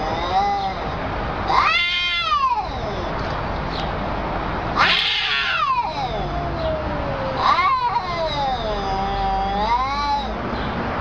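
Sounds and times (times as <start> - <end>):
cats yowling: 0.0 - 3.3, 4.7 - 10.5.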